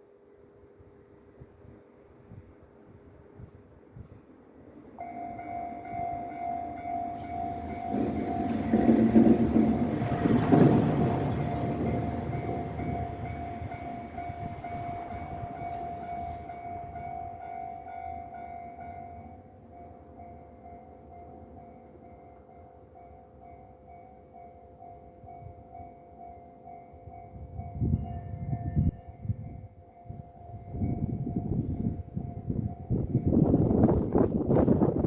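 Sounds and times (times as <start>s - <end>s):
tram passing: 0.8s - 35.0s
level crossing warning bell: 5.0s - 33.7s.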